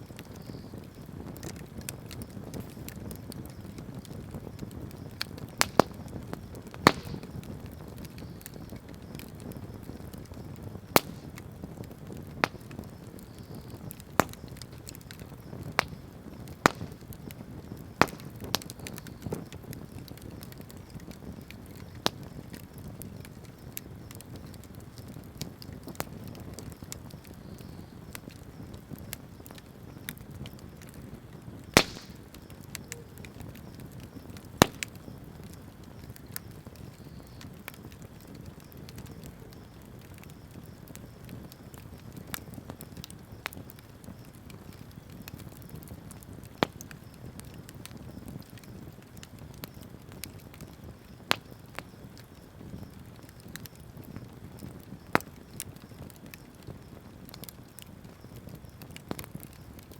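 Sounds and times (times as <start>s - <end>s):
bonfire crackling and rumbling: 0.0s - 59.9s
sharp fire pops: 0.0s - 59.9s.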